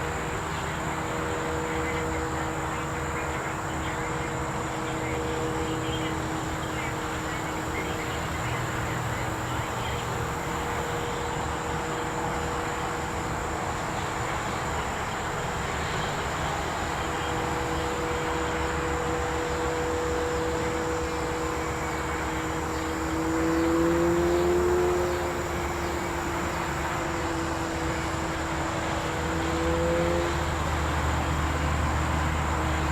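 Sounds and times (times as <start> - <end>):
distant motor drone: 0.0 - 32.9.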